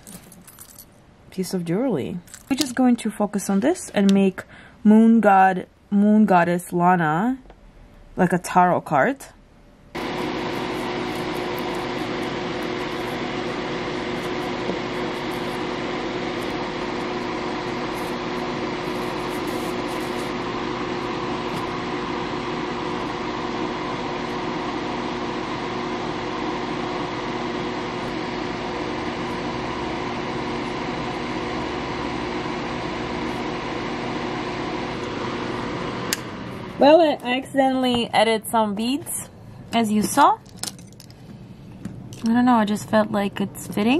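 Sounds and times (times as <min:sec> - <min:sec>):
steady mechanical hum: 0:00.0 - 0:43.9.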